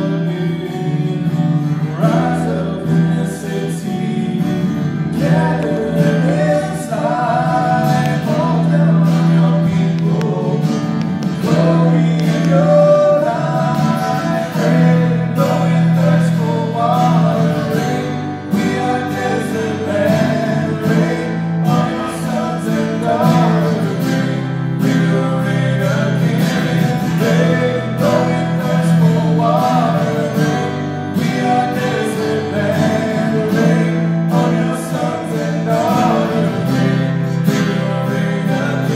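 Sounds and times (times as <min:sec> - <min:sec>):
keyboard: 0:00.0 - 0:38.9
person singing: 0:00.0 - 0:38.9
strummed acoustic guitars: 0:00.0 - 0:38.9.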